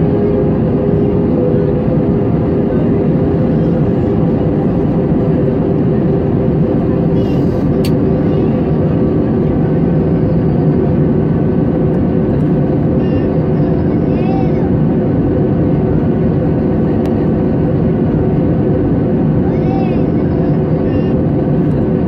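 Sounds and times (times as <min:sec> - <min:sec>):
jet engine cabin drone: 0:00.0 - 0:22.0.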